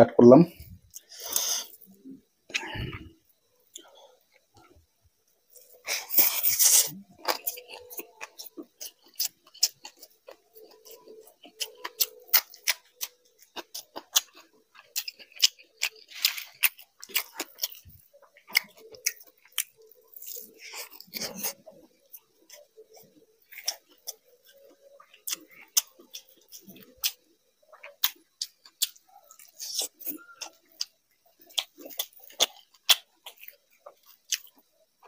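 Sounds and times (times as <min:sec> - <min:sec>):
chewing and lip smacking: 0:05.5 - 0:35.0.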